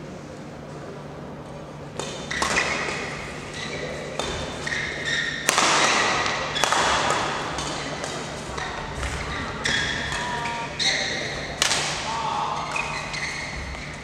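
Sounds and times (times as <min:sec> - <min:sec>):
shoes squeaking on court: 0:02.0 - 0:06.9, 0:07.5 - 0:14.0
rackets hitting shuttlecock: 0:02.0 - 0:14.0.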